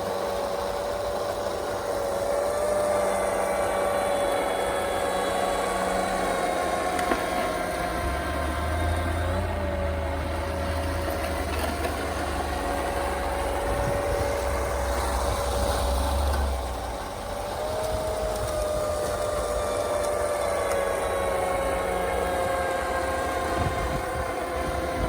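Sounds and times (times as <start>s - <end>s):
small motor whine: 0.0s - 25.0s.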